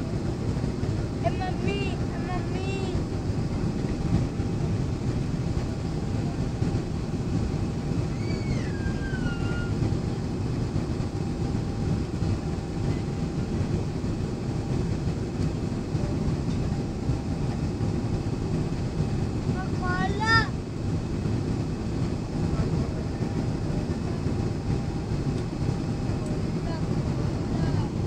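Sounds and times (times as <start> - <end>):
jet airliner cabin rumble: 0.0 - 28.0.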